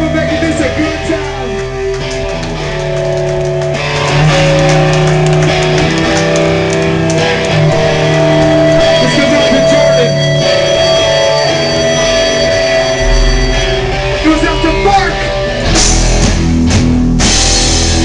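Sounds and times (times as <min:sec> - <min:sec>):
drums: 0:00.0 - 0:18.0
electric guitar chords: 0:00.0 - 0:18.0
punk band playing live: 0:00.0 - 0:18.0.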